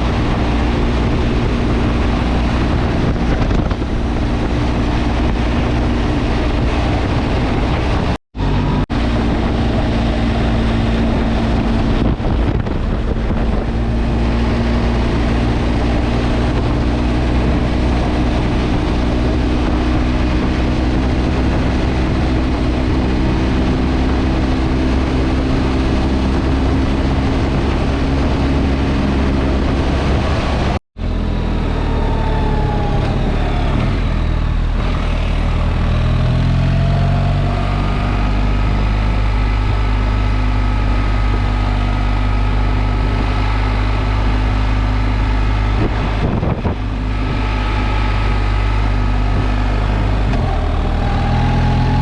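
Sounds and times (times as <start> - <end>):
motorcycle engine cruising: 0.0 - 52.0
wind rushing over microphone: 0.0 - 52.0.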